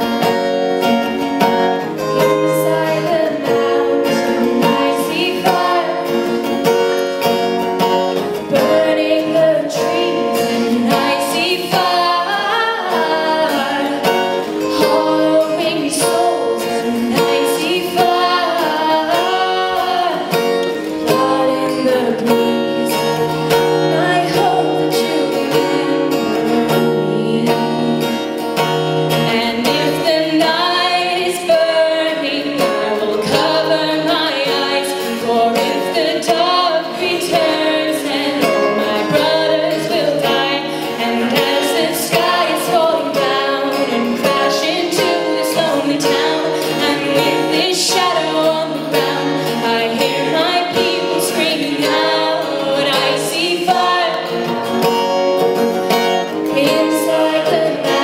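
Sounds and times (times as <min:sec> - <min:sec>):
acoustic guitar: 0:00.0 - 0:58.0
woman singing: 0:00.0 - 0:58.0.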